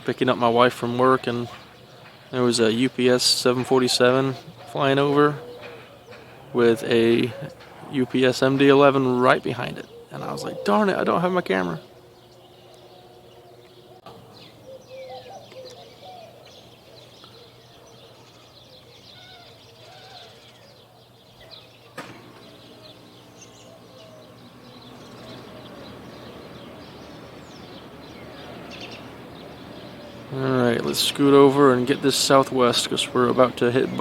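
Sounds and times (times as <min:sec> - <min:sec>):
birds chirping and calling: 0:00.0 - 0:34.0.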